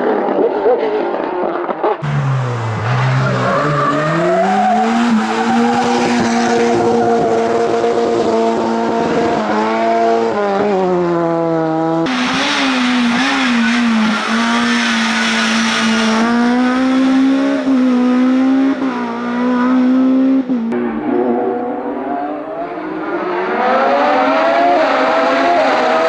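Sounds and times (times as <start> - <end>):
race car engine at high revs: 2.0 - 26.0.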